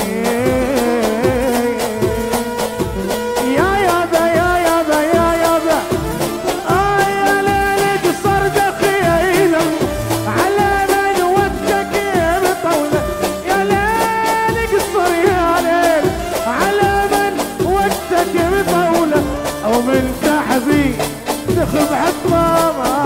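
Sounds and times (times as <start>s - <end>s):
keyboard oud and violin melody: 0.0s - 23.0s
percussion beat: 0.0s - 23.0s.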